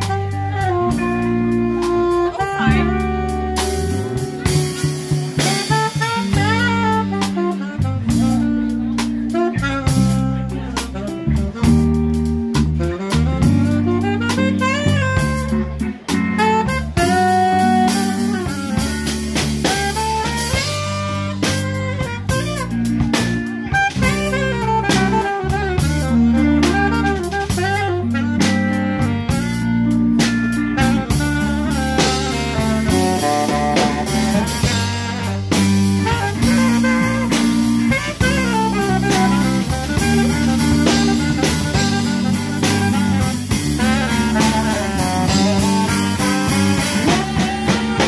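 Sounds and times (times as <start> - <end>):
bass line: 0.0 - 48.0
drum kit: 0.0 - 48.0
saxophone melody: 0.0 - 48.0.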